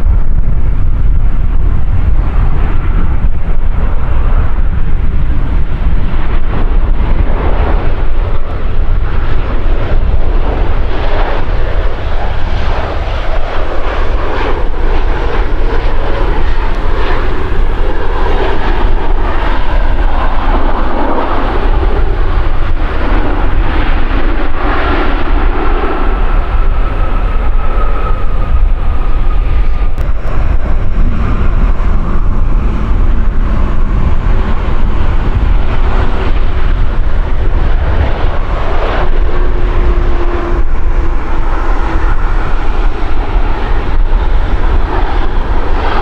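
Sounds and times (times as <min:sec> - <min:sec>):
jet engines roaring: 0:00.0 - 0:46.0
wind buffeting microphone: 0:00.0 - 0:46.0.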